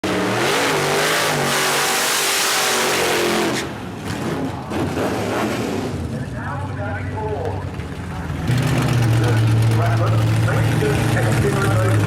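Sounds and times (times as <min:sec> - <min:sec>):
truck engine at full throttle: 0:00.0 - 0:12.0.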